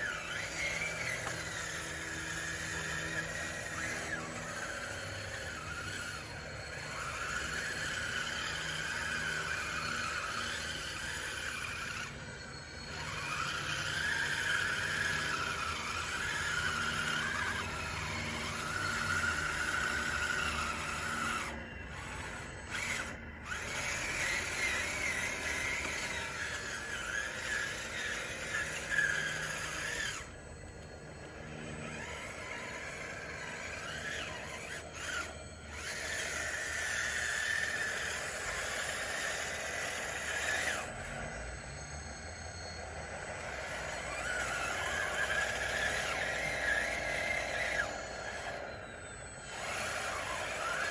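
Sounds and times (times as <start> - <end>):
small electric motors whining: 0.0 - 50.9.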